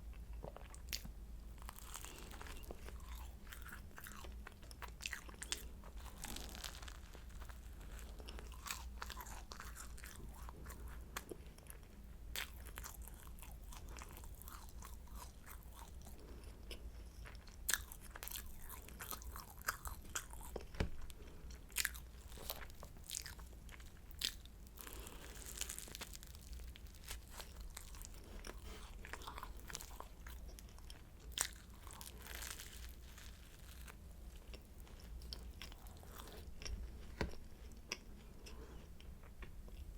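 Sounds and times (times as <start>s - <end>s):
faint low hum: 0.0s - 39.9s
chewing: 0.1s - 39.9s
crunching bites of pastry: 0.4s - 11.8s, 12.4s - 38.6s.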